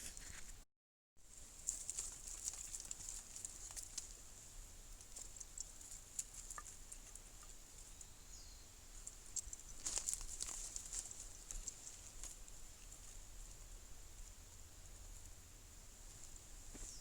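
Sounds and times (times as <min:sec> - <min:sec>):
small rustles: 0:01.2 - 0:08.1, 0:08.9 - 0:15.4, 0:16.0 - 0:17.0
faint steady hiss: 0:01.2 - 0:17.0.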